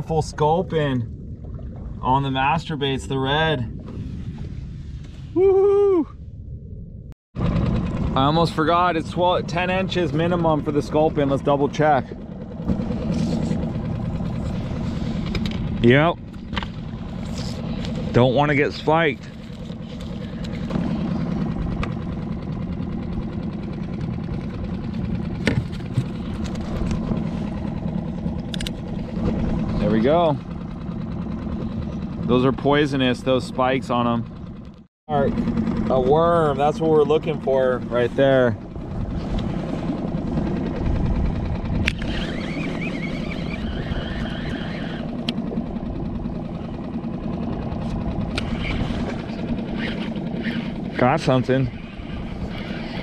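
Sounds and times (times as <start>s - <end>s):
outboard motor idling: 0.0s - 53.0s.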